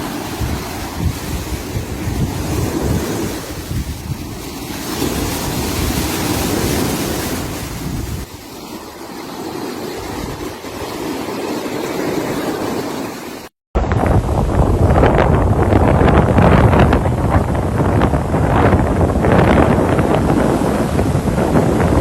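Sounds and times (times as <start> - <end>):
wind buffeting microphone: 0.0 - 12.9, 13.8 - 22.0
surf washing onto beach: 0.0 - 22.0.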